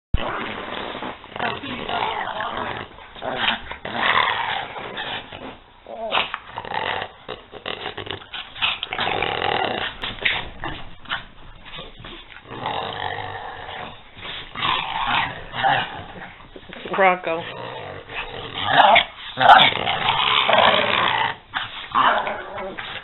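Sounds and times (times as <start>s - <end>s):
small dogs play-fighting: 0.2s - 23.0s.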